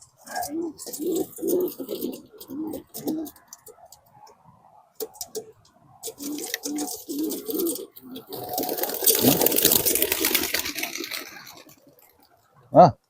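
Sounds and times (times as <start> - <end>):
pigeons cooing: 0.0 - 12.3.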